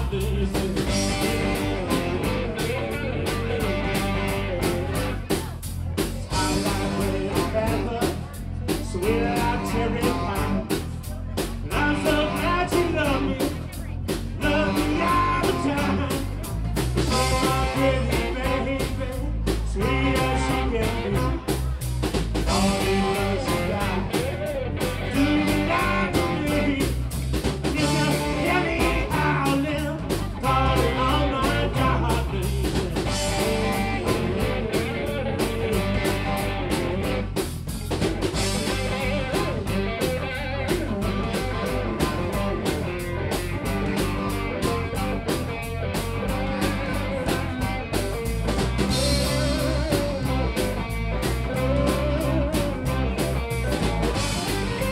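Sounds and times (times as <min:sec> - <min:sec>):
man singing: 0:00.0 - 0:37.2, 0:38.4 - 0:54.9
drum kit: 0:00.0 - 0:54.9
electric bass: 0:00.0 - 0:54.9
electric guitar: 0:00.0 - 0:54.9.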